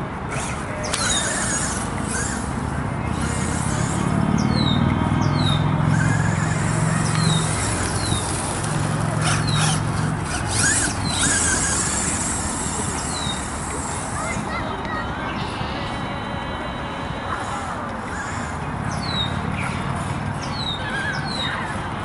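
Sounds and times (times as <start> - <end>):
rc truck motor and tyres hissing: 0.0 - 22.0.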